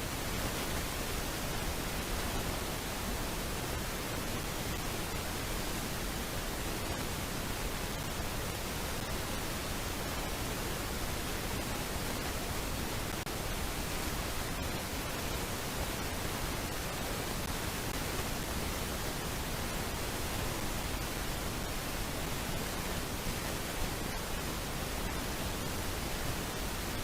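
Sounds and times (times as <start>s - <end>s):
static-like hiss: 0.0s - 27.0s.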